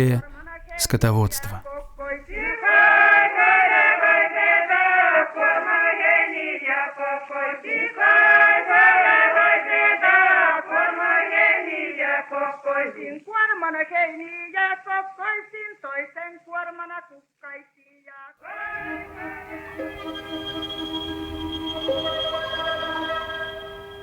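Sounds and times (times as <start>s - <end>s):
voices singing folk song: 0.0s - 16.8s, 18.4s - 24.0s.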